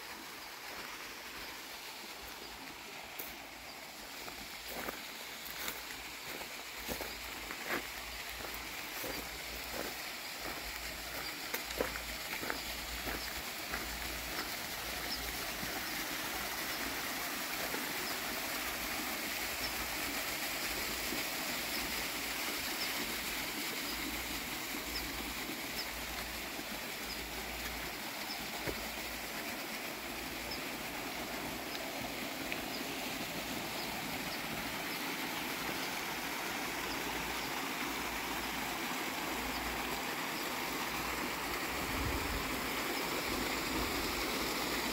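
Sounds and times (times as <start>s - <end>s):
waterfalls splashing over rocks: 0.0s - 44.9s.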